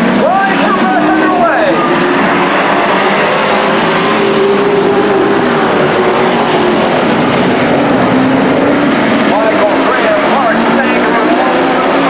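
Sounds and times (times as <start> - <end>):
race truck engines roaring: 0.0 - 12.0.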